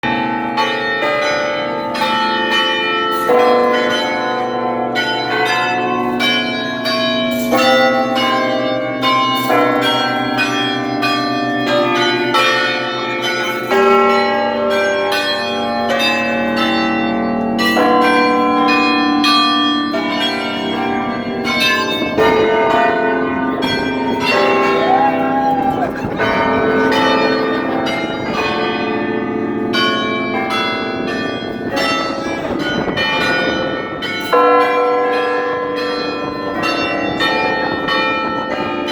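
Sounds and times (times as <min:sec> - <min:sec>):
carillon bells ringing: 0:00.0 - 0:38.9.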